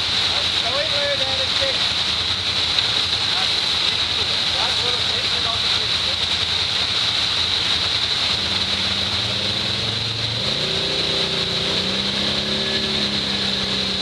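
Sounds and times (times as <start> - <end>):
off-road vehicle engine running: 0.0 - 14.0
steady hiss: 0.0 - 14.0.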